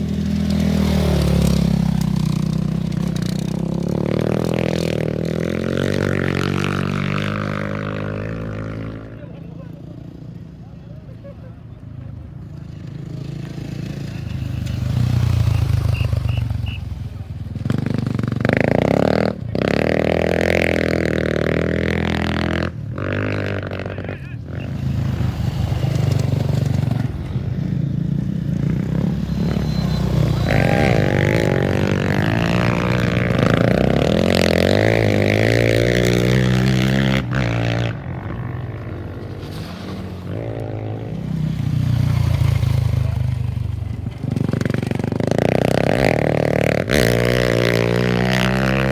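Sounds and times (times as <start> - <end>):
motorbike engines revving: 0.0 - 48.9.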